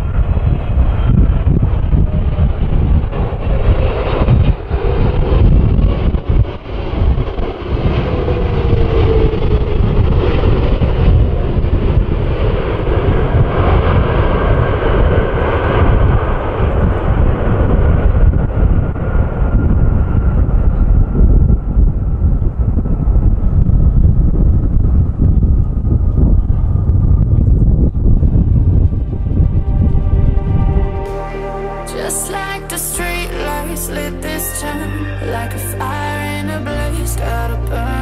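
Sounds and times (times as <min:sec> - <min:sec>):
wind buffeting microphone: 0:00.0 - 0:31.2
jet engine whine: 0:00.0 - 0:38.0.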